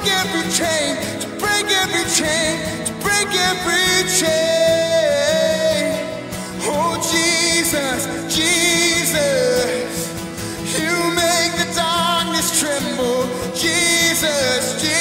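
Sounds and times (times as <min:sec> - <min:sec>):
man singing worship song: 0:00.0 - 0:15.0
strummed acoustic guitar: 0:00.0 - 0:15.0.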